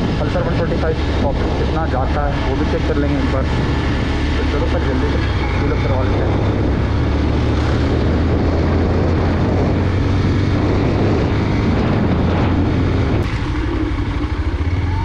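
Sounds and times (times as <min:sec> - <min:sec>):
wind on microphone: 0:00.0 - 0:14.0
motorcycle engine running: 0:00.0 - 0:15.0.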